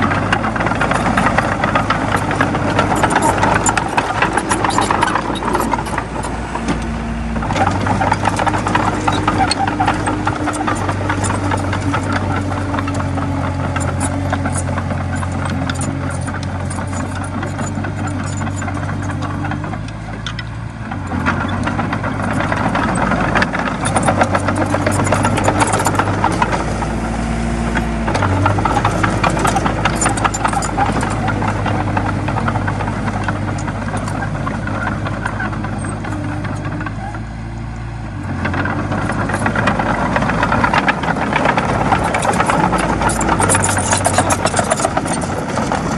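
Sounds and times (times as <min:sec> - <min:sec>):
bulldozer diesel engine clattering: 0:00.0 - 0:45.9.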